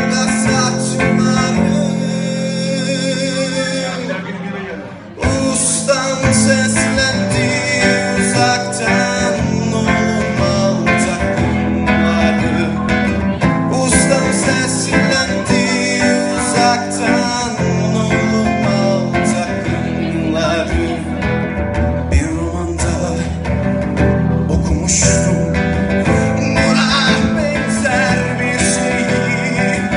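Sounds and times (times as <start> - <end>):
acoustic guitar strumming: 0.0 - 29.9
man singing into a microphone: 0.0 - 29.9.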